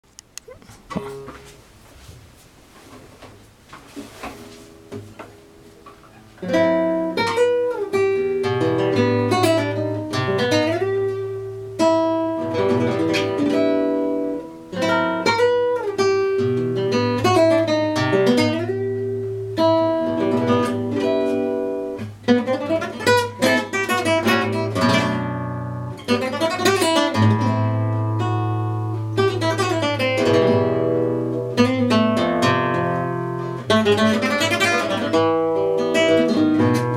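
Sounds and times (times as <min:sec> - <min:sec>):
acoustic guitar music: 0:00.0 - 0:02.0, 0:02.6 - 0:36.9.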